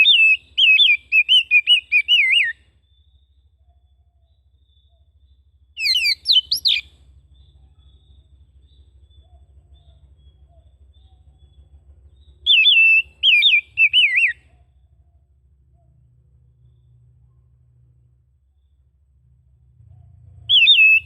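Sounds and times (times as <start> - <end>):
bird singing whistled notes: 0.0 - 17.8, 18.4 - 21.0.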